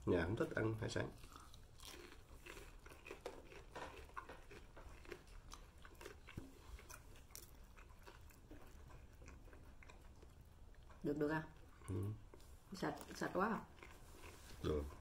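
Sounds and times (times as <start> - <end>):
person chewing food: 1.1 - 15.0.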